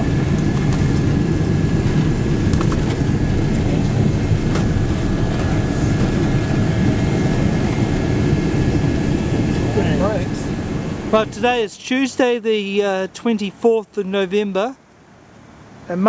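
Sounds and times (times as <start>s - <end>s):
faint steady whine: 0.0s - 16.0s
jet engines and wheels rumbling: 0.0s - 16.0s.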